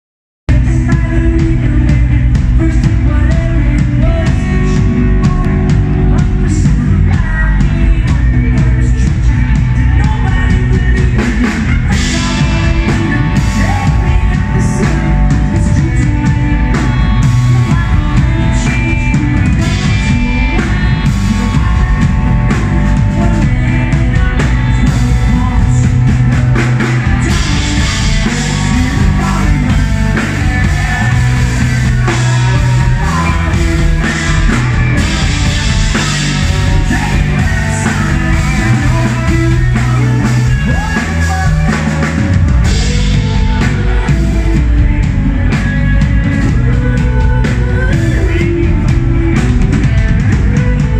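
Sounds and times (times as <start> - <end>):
drum kit: 0.5 - 50.9
electric guitars: 0.5 - 50.9
lead vocals singing: 0.5 - 50.9.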